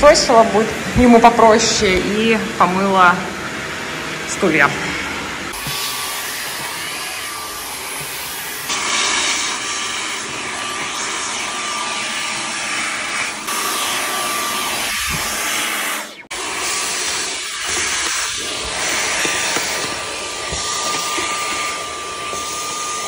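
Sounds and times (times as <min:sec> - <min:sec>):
vacuum cleaner suction: 0:00.0 - 0:23.0.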